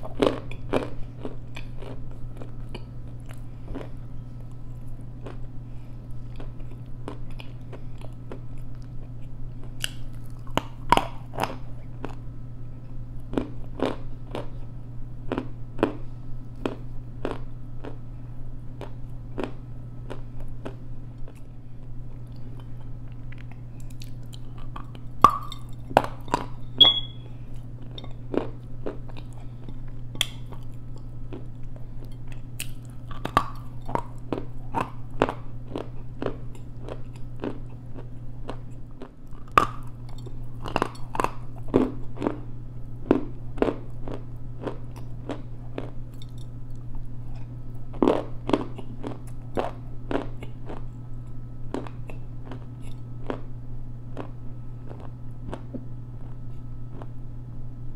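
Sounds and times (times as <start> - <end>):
crisp crunchy chewing: 0.0 - 12.2, 12.8 - 18.0, 18.7 - 53.5, 54.1 - 57.2
steady low hum: 0.0 - 57.9.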